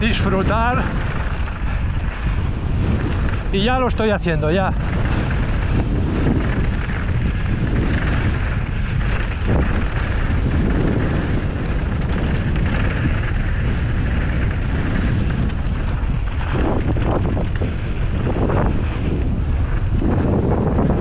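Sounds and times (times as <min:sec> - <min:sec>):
bike tyres rolling on dirt: 0:00.0 - 0:21.0
wind rumble on microphone: 0:00.0 - 0:21.0.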